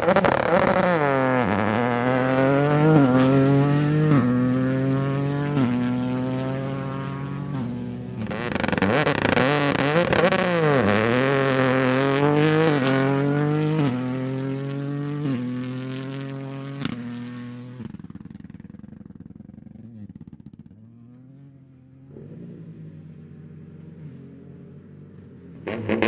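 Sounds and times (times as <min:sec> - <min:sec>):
rally car engine accelerating: 0:00.0 - 0:18.0, 0:19.7 - 0:26.0.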